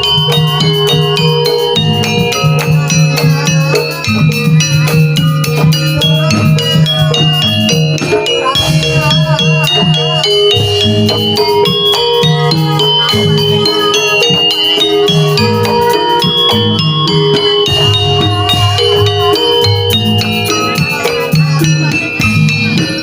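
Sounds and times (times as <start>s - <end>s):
gamelan percussion and drums: 0.0s - 23.0s
wavering melody line: 0.0s - 23.0s.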